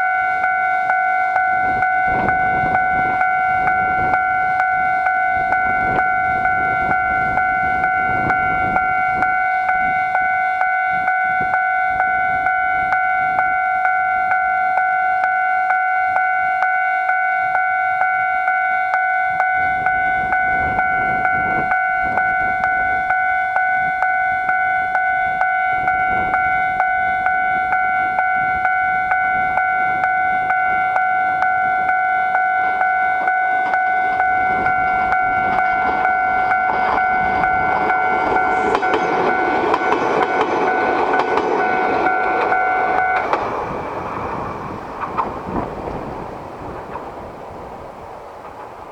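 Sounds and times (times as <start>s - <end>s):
level crossing bell ringing: 0.0s - 44.8s
oncoming train: 0.0s - 48.9s.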